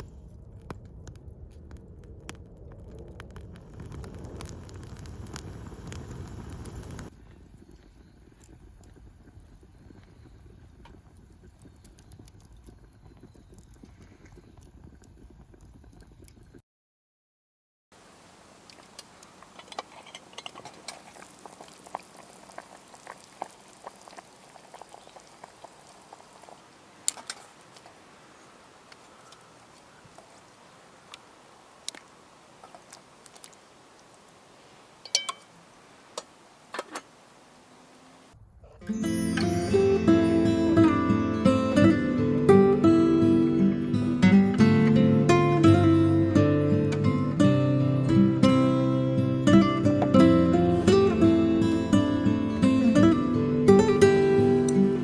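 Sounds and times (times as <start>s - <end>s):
campfire crackles: 0.0s - 16.6s, 18.0s - 55.0s
food simmering and bubbling in pot: 0.0s - 16.6s, 18.0s - 55.0s.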